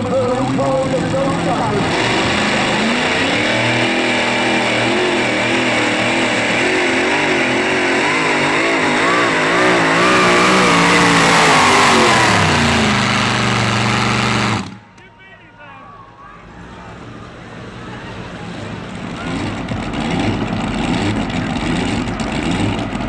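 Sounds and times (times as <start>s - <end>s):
tractor engine revving hard: 0.0s - 15.0s, 16.5s - 23.0s.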